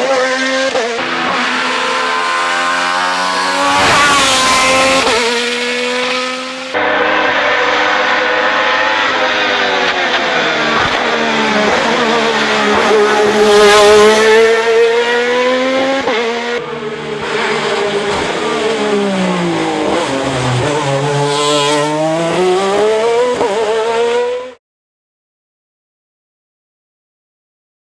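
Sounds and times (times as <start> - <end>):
race car engine revving: 0.0 - 24.6.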